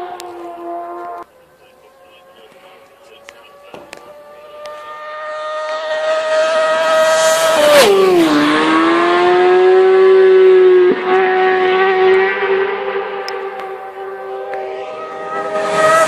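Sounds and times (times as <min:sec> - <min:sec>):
racing motorcycle passing: 0:00.0 - 0:16.0.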